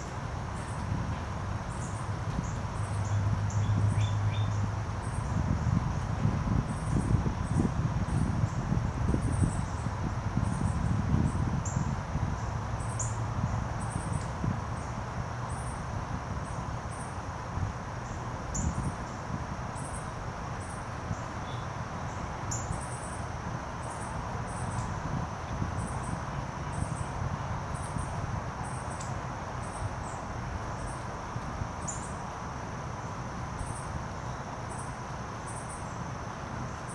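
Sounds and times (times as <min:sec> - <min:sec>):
insect chirps: 0:00.0 - 0:00.8, 0:01.6 - 0:36.9.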